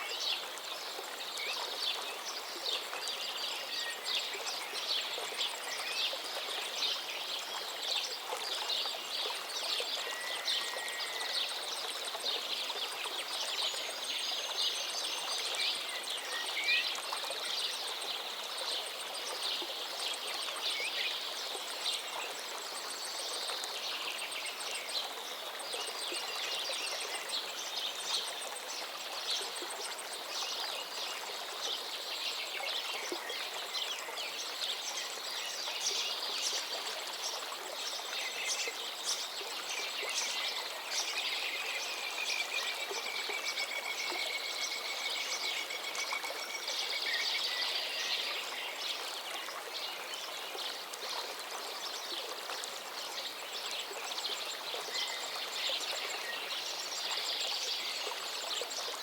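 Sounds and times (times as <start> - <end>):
river flowing: 0.0 - 59.0
songbirds chirping and trilling: 0.0 - 59.0.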